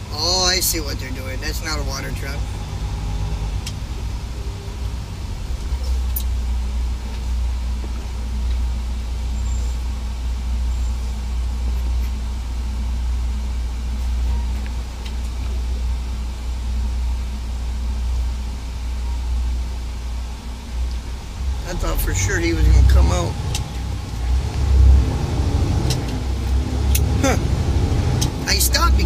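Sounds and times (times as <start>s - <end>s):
truck diesel engine droning: 0.0s - 29.0s.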